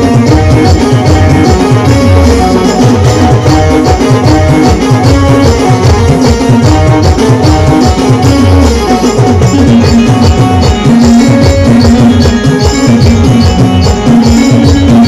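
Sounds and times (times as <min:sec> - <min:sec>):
fast driving drums: 0:00.0 - 0:15.0
repeating melody line: 0:00.0 - 0:15.0
shaken percussion: 0:00.0 - 0:15.0.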